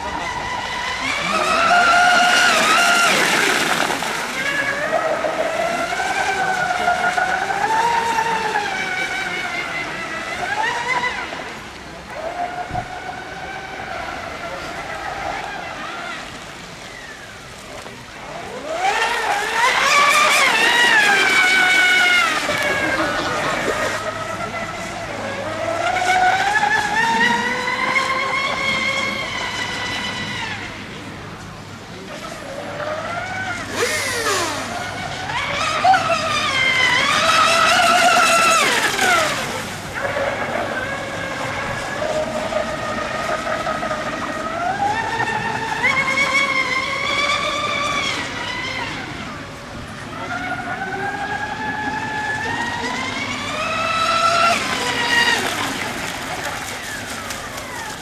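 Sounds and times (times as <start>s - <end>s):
model speedboat motor: 0.0s - 58.0s.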